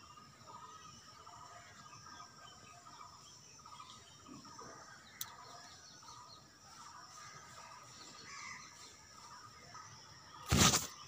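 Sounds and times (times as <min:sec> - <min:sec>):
distant bird chirps: 0:00.0 - 0:11.0
high insect hum: 0:00.0 - 0:11.0.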